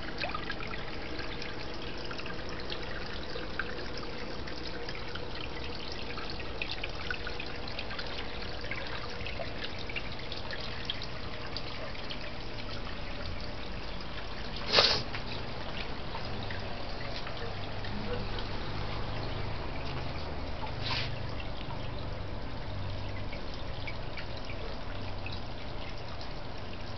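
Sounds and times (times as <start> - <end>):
water trickling and dripping: 0.0 - 26.9.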